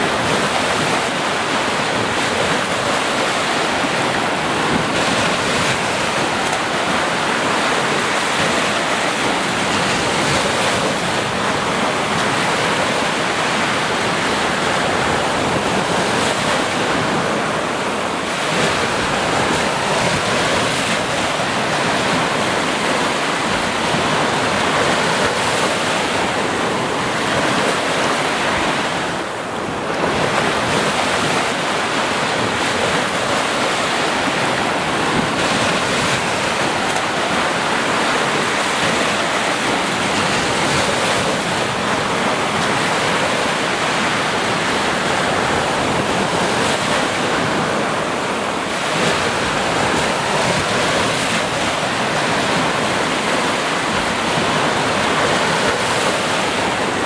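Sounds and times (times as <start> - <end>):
surf breaking on a beach: 0.0 - 57.0.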